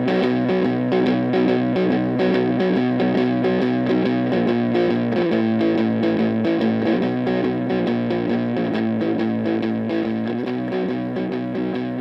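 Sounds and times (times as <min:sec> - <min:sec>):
fuzzed electric guitar chords: 0:00.0 - 0:12.0.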